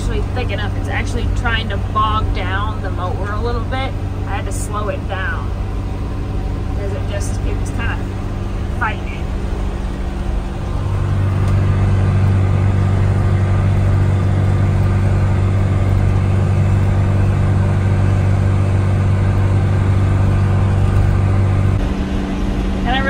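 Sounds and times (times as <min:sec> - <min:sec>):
tractor engine droning under load: 0:00.0 - 0:23.0.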